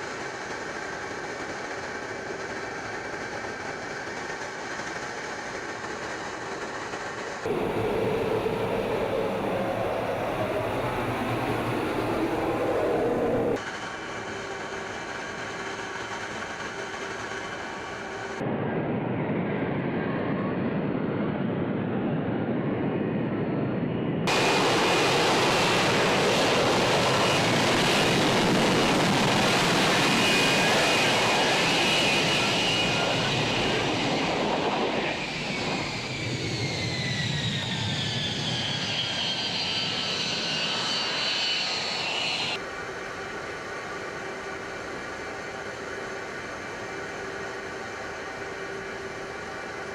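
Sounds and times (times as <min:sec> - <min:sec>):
jet engine running loud: 0:00.0 - 0:49.9.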